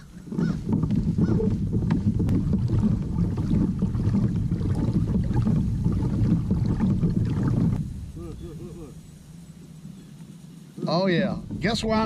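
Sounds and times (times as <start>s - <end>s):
kayak rushing through water: 0.0s - 12.0s.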